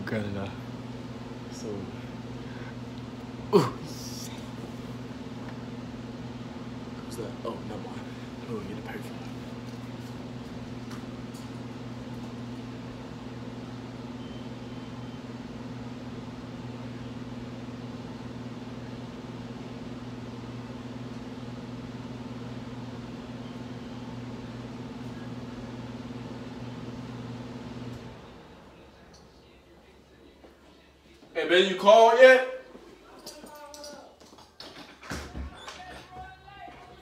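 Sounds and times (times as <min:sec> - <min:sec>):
low electrical hum of machine: 0:00.0 - 0:37.0.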